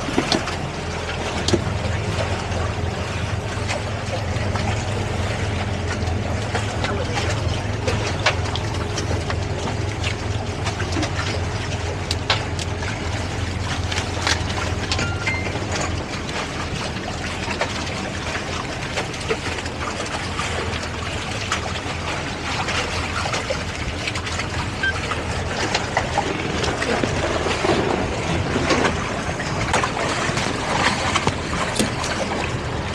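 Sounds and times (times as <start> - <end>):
boat engines droning: 0.0 - 32.9
water splashing between hulls: 0.0 - 32.9.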